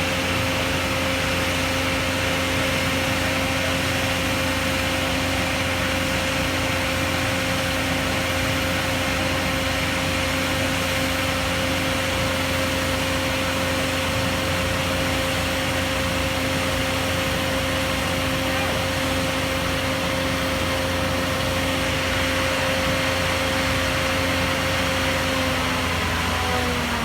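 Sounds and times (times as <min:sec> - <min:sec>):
engine humming steadily: 0:00.0 - 0:27.0.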